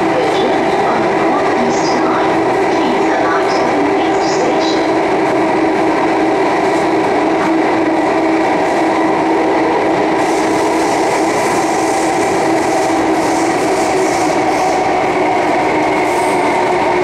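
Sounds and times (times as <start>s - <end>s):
metro train running noise: 0.0s - 17.0s.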